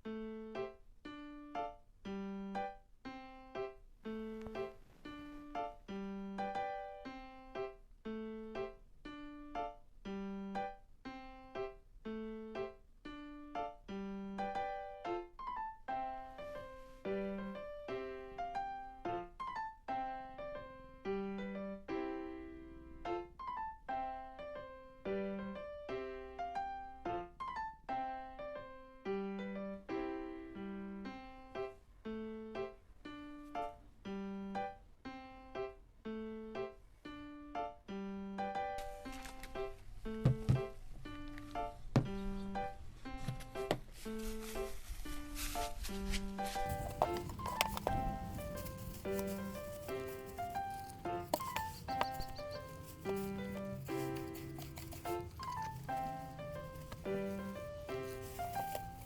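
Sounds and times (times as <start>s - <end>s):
gentle piano melody: 0.0s - 59.0s.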